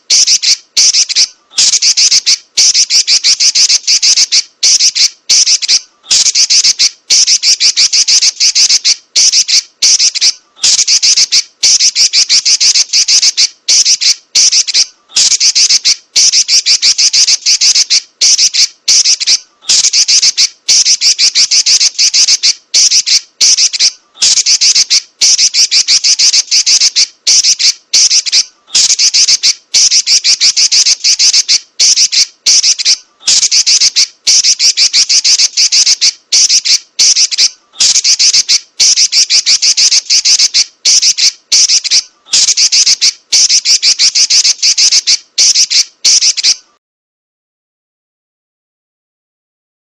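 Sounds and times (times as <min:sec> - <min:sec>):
bird chattering in rapid runs: 0:00.1 - 0:46.6.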